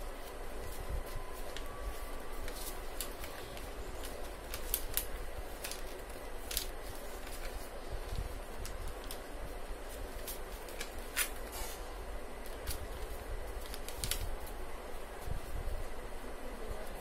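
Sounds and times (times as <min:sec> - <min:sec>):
paper crinkling and rustling: 0:00.0 - 0:11.8, 0:12.4 - 0:15.9.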